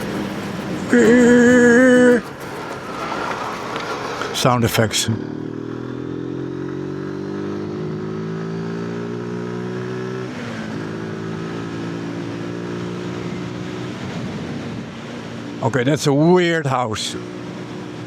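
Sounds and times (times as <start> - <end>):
motorcycle engine revving up: 0.0 - 14.5.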